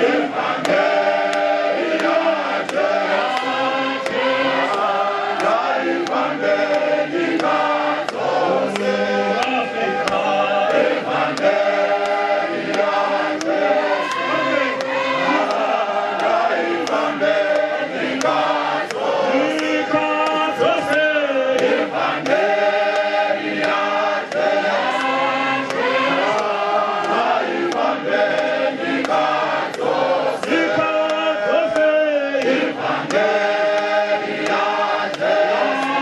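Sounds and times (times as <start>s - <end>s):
congregation singing a hymn: 0.0s - 36.0s.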